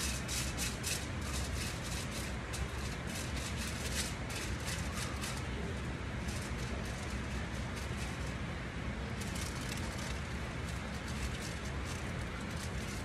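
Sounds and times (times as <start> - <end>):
aluminium foil crinkling: 0.0 - 13.0
steady low hum: 0.0 - 13.0.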